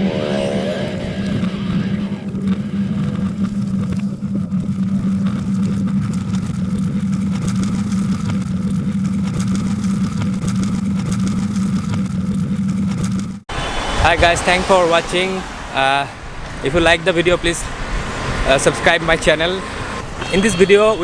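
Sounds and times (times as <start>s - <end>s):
road and wind noise: 0.0s - 21.0s
vehicle engine humming: 0.0s - 21.0s.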